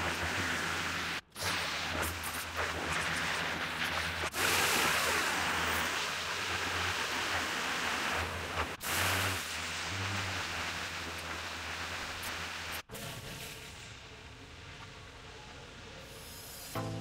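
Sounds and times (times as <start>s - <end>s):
pressure washer spray hiss: 0.0s - 13.9s.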